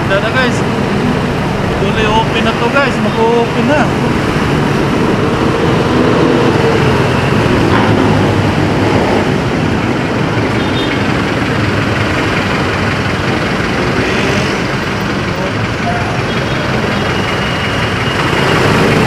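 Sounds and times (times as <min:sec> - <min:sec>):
vehicle engines running: 0:00.0 - 0:19.0.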